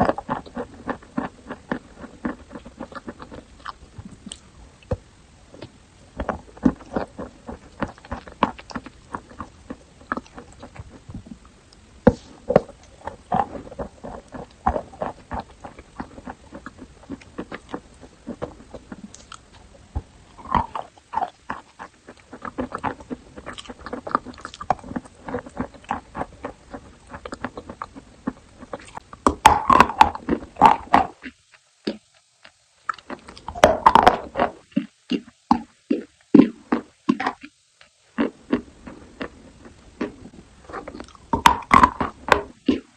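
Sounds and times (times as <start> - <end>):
chalk crunching being chewed: 0.0 - 5.0, 5.6 - 19.6, 20.4 - 35.3, 35.9 - 42.9.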